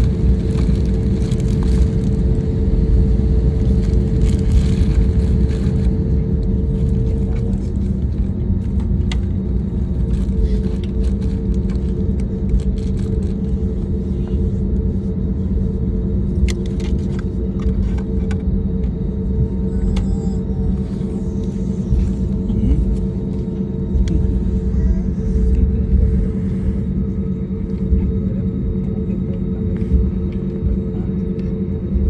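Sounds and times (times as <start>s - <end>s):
vehicle engine hum: 0.0s - 32.0s.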